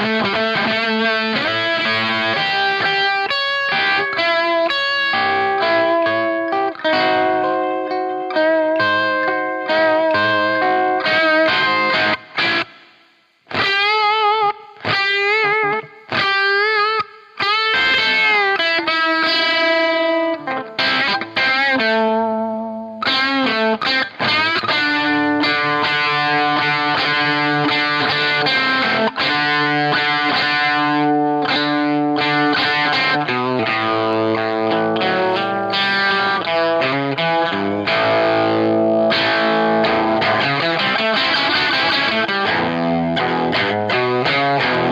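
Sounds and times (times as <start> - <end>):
fuzz-distorted electric guitar: 0.0 - 44.9.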